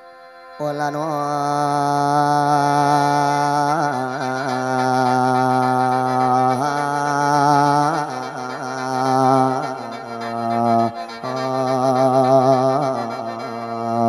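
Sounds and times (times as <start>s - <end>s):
bamboo mouth organ melody: 0.0s - 14.0s.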